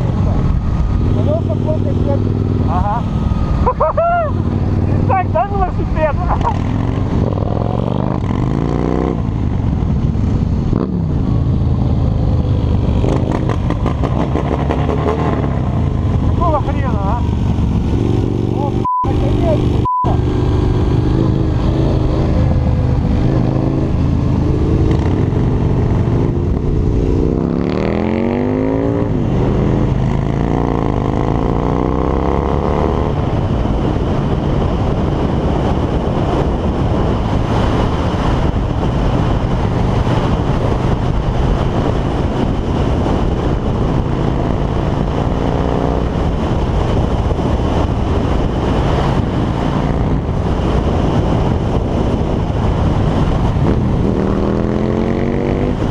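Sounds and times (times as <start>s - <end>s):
motorcycle engine accelerating: 0.0s - 55.9s
wind rushing: 0.0s - 55.9s.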